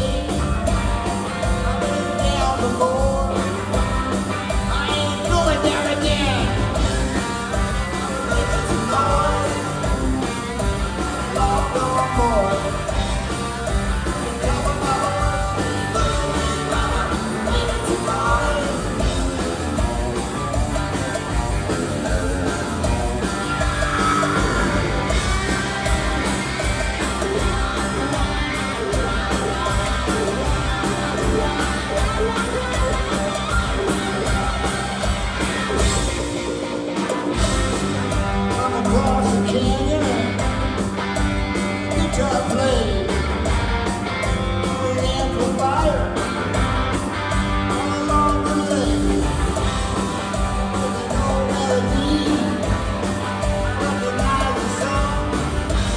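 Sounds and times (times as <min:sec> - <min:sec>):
rock music with singing and guitar: 0:00.0 - 0:55.9.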